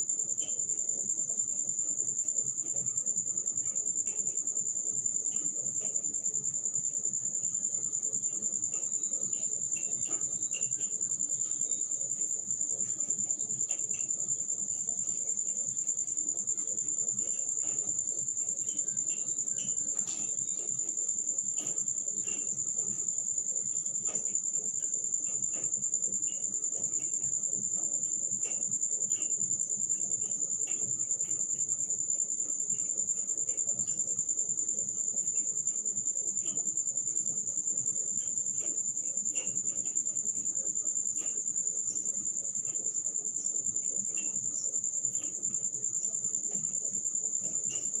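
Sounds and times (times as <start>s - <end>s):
high-pitched insect drone: 0.0s - 48.0s.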